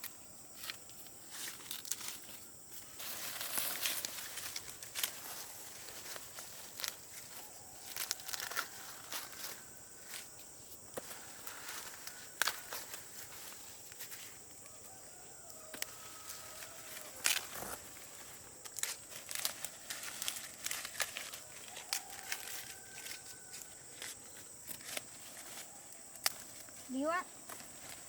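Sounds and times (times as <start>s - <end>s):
rustling: 0.6s - 28.0s.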